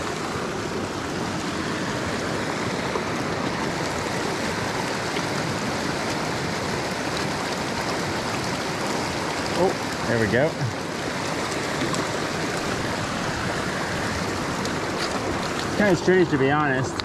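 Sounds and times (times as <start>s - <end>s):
creek rushing over stones: 0.0s - 17.0s.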